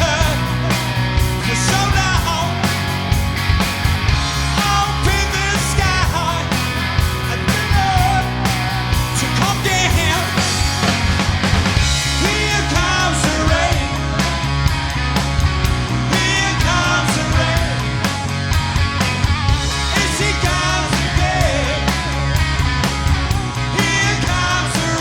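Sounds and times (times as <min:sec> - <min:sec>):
drums beating: 0:00.0 - 0:25.0
rock band playing: 0:00.0 - 0:25.0.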